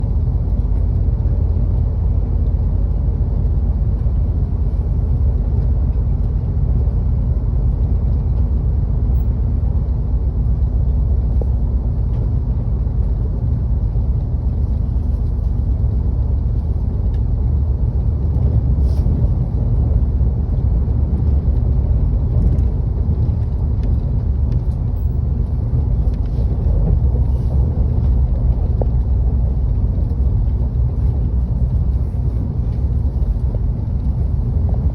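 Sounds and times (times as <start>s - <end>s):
metro train rumbling on track: 0.0s - 34.9s.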